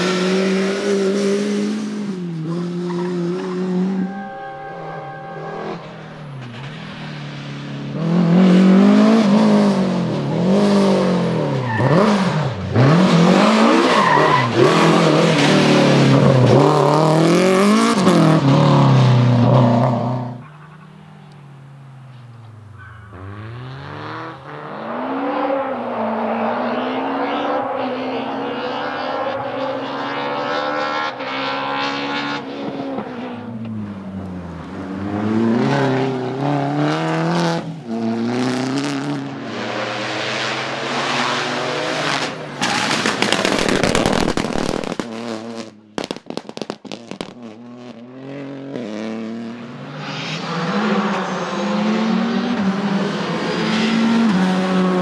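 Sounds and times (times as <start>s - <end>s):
rally car engines revving: 0.0s - 46.0s, 47.1s - 55.0s.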